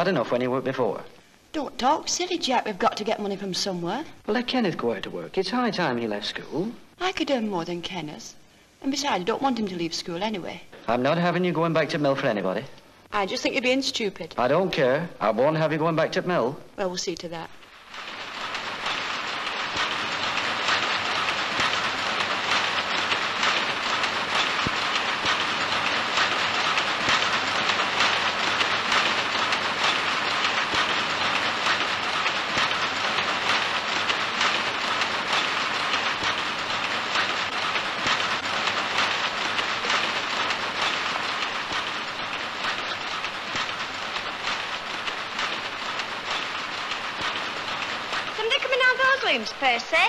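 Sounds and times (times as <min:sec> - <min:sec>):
power looms clattering: 0:00.0 - 0:08.3, 0:08.9 - 0:13.3, 0:13.9 - 0:50.0.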